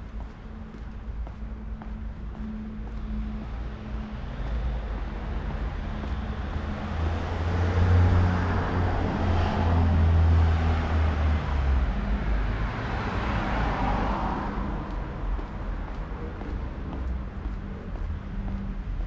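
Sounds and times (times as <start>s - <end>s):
tyre and road noise: 0.0s - 19.0s
vehicle engine hum passing: 0.0s - 19.0s.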